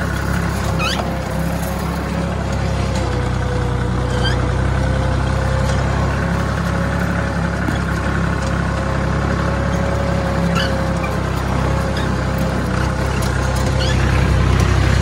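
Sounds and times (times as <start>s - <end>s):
fertilizer spreader whine: 0.0s - 15.0s
tractor diesel engine running: 0.0s - 15.0s.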